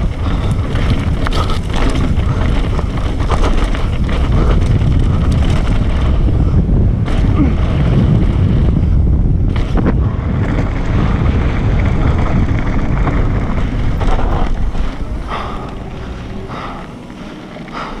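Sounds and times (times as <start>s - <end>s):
bike rattling over bumps: 0.0s - 18.0s
tyres rumbling over gravel: 0.0s - 18.0s
wind rushing over microphone: 0.0s - 18.0s.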